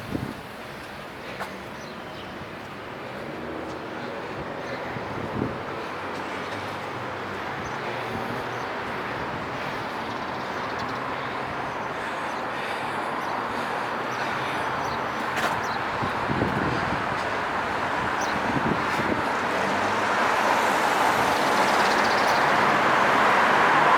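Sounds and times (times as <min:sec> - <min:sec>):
passing vehicles: 0:00.0 - 0:23.9.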